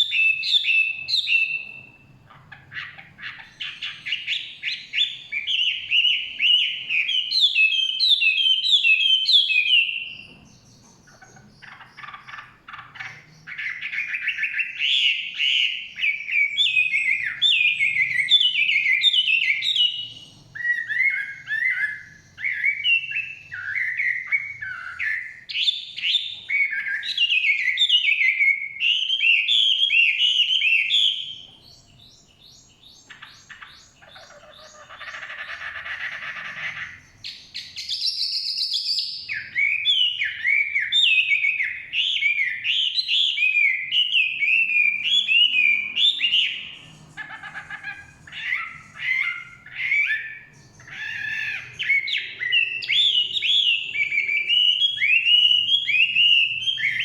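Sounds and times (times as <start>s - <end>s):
harsh raspy bird call: 0.0s - 10.2s, 11.0s - 31.8s, 32.9s - 38.4s, 39.1s - 57.0s
songbird whistling song: 0.0s - 57.0s.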